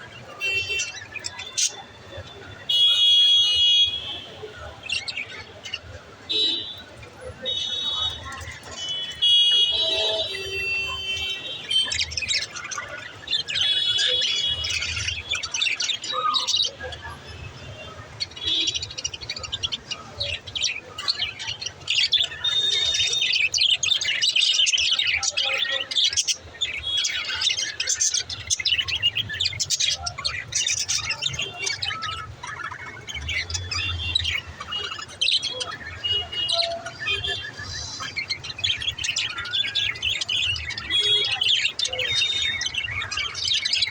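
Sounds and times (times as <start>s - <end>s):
budgerigars chirping and chattering: 0.0s - 43.9s.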